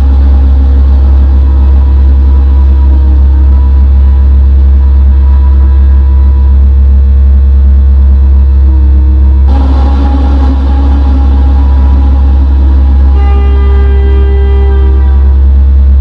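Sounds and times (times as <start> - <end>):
synthesizer drone: 0.0 - 16.0.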